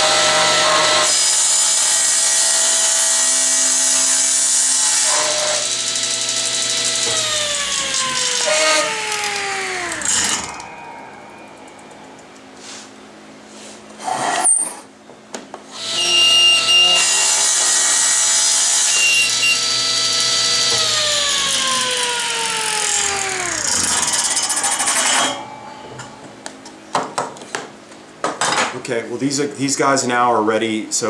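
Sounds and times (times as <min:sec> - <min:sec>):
table saw whine: 0:00.0 - 0:14.8, 0:15.7 - 0:26.6.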